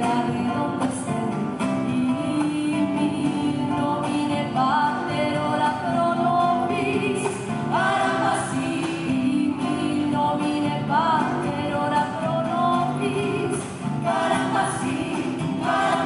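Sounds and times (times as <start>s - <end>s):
people singing held wavering notes: 1.8s - 16.0s.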